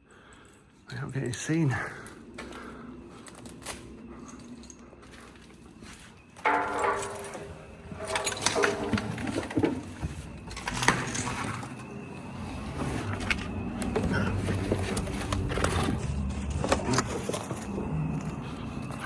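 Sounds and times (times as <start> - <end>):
footsteps crunching over debris: 2.0 - 19.0.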